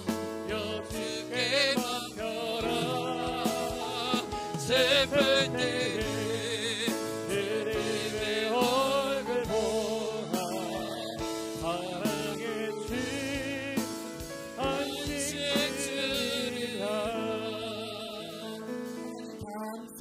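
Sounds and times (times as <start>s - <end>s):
man singing into microphone: 0.0s - 20.0s
sustained instrumental accompaniment: 0.0s - 20.0s.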